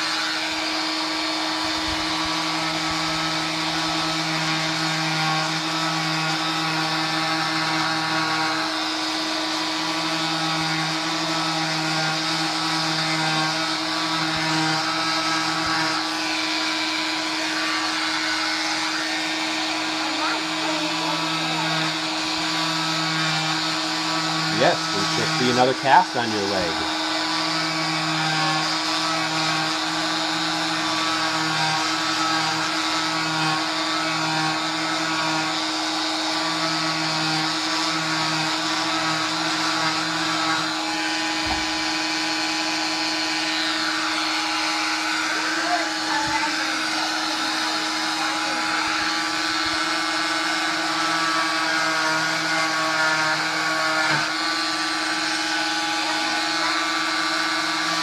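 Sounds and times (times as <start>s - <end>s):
electric cast saw whining: 0.0s - 58.0s
vacuum humming: 0.0s - 58.0s.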